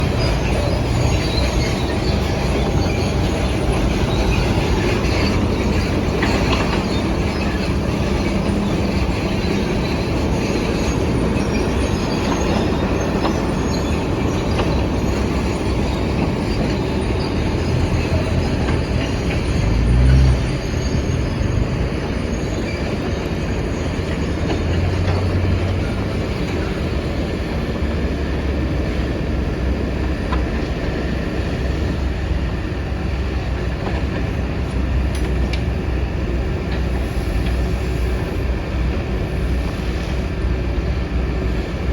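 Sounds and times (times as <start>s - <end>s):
excavator diesel engine rumbling: 0.0s - 41.9s.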